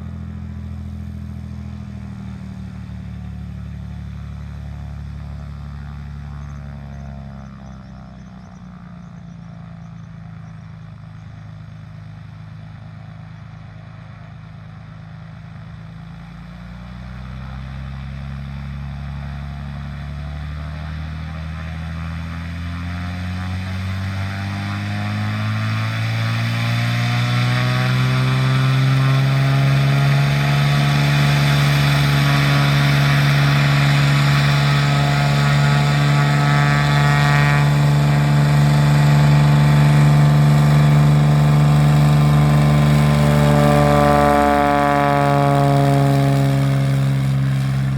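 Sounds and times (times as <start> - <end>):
propeller plane engine throttling up: 0.0 - 47.9.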